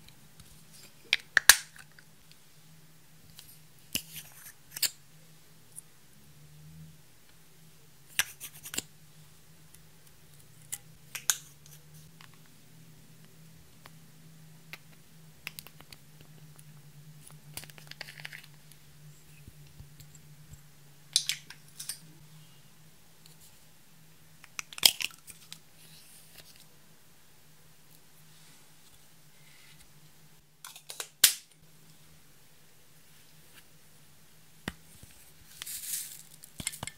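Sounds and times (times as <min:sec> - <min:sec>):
faint low hum: 0:00.0 - 0:36.9.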